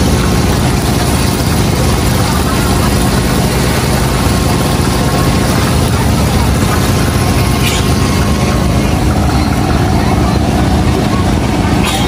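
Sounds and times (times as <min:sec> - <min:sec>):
chicken deep-frying in oil: 0:00.0 - 0:12.0
engine-like hum: 0:00.0 - 0:12.0.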